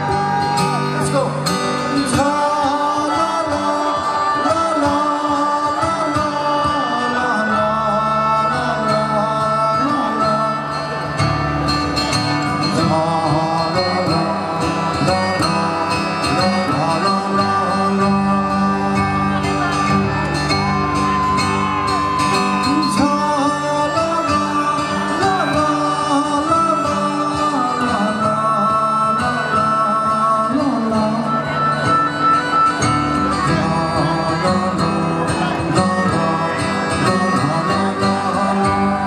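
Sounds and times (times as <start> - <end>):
acoustic guitar strumming: 0.0 - 39.0
live band through a pa: 0.0 - 39.0
person singing: 0.0 - 39.0.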